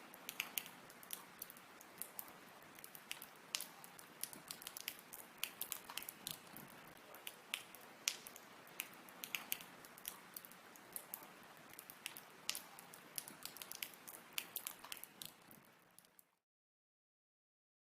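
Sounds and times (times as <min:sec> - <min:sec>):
faint watery hiss: 0:00.0 - 0:16.2
water droplets dripping: 0:00.0 - 0:16.3.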